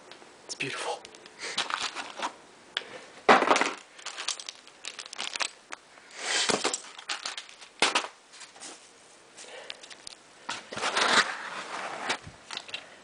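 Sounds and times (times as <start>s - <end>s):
crinkling and rustling packaging: 1.0s - 2.4s, 3.2s - 5.8s, 6.4s - 12.9s.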